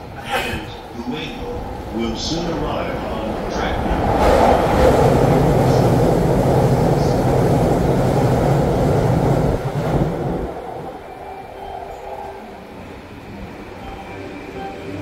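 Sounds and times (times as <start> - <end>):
electric train rolling rumble: 0.0 - 15.0.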